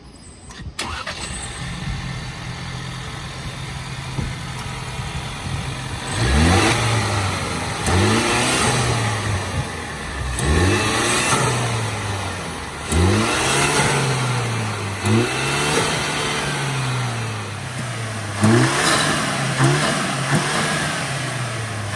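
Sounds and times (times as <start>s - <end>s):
car engine idling and revving: 0.4s - 21.9s.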